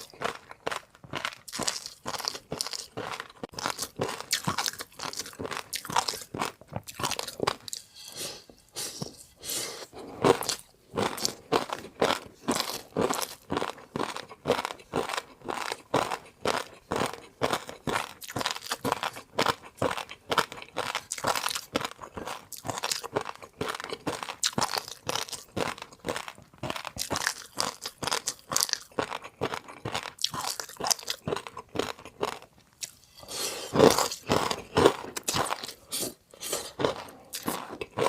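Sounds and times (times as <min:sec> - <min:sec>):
chewing crunchy food: 0:00.0 - 0:38.0.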